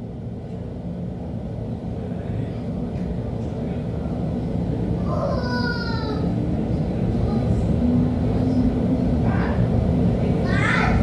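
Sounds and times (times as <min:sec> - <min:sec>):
light-rail car rumble: 0:00.0 - 0:11.0.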